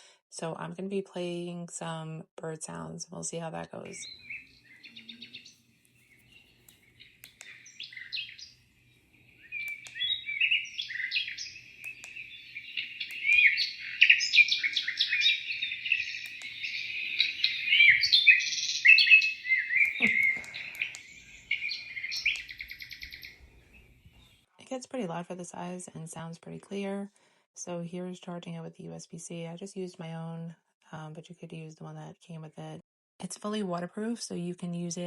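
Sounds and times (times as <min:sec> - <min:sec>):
recorded birdsong from speaker: 0:00.3 - 0:05.6, 0:06.2 - 0:30.5, 0:31.1 - 0:35.0.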